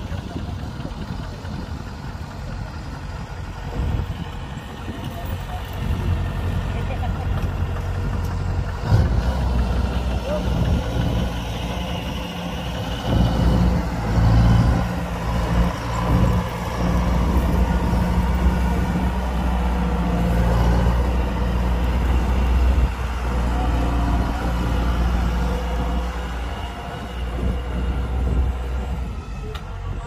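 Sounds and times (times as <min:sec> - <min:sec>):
combine harvester engine running: 0:00.0 - 0:30.0.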